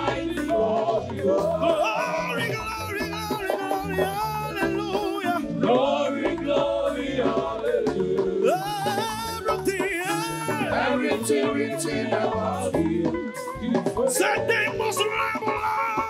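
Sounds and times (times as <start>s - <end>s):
gospel singing with band: 0.0s - 16.0s.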